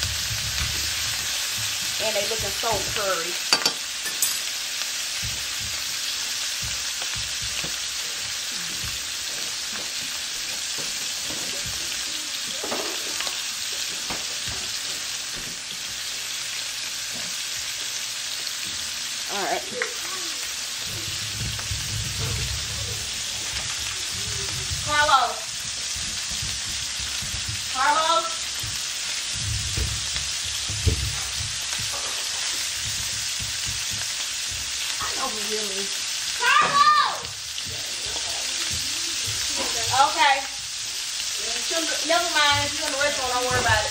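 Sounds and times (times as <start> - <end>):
meat sizzling: 0.0 - 43.9.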